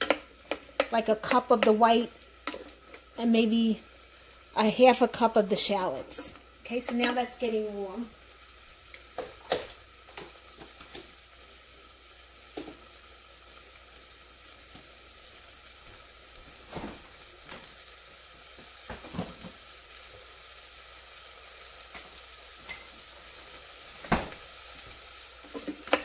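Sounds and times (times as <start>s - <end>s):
onions sizzling in a pot: 0.0s - 26.0s.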